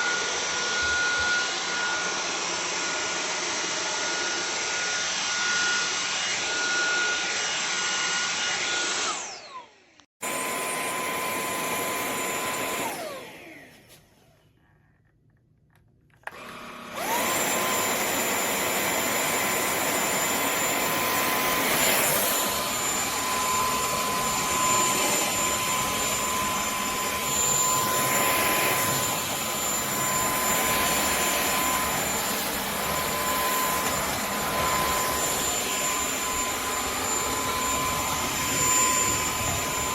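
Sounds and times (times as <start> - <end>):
vacuum motor whine: 0.0 - 14.5, 16.2 - 39.9.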